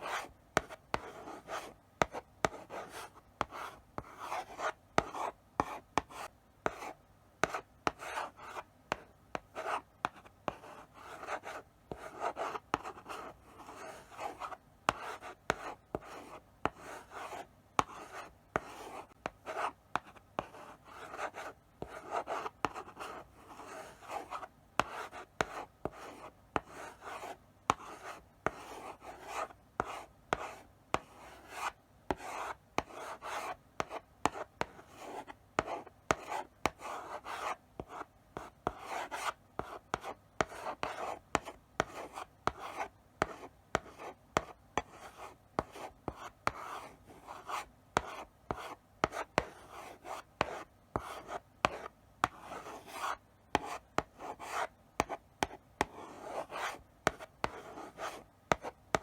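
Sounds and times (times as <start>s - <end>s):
chalk tapping on board: 0.1s - 59.0s.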